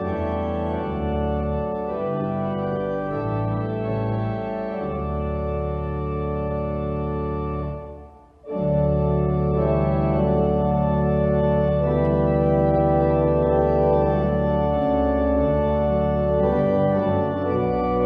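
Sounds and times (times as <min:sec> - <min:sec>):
church organ playing a hymn: 0:00.0 - 0:18.0.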